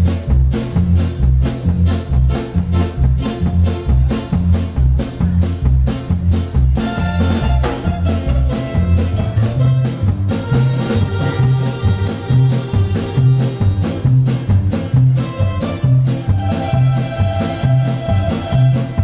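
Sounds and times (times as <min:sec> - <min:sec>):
band playing instrumental music: 0:00.0 - 0:19.0.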